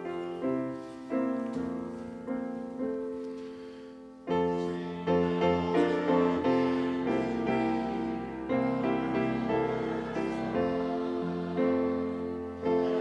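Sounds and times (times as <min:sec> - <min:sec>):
piano playing hymn chords: 0:00.0 - 0:13.0.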